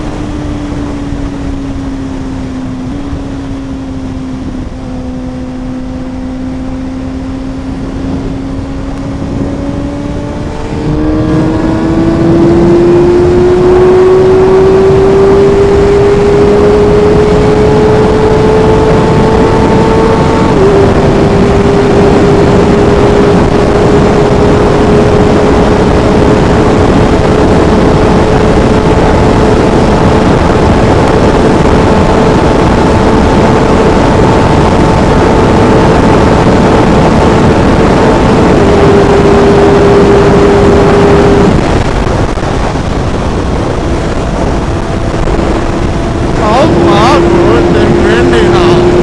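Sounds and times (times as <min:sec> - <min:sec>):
motorcycle engine at high revs: 0:00.0 - 0:49.0
rushing wind noise: 0:00.0 - 0:49.0.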